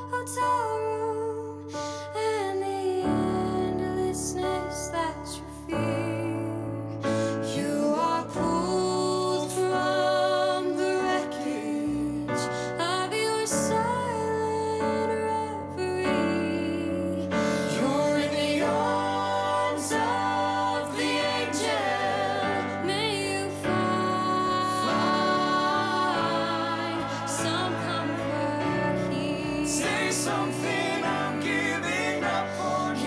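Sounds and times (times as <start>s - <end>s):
person singing a slow ballad: 0.0s - 33.0s
piano chords: 0.0s - 33.0s.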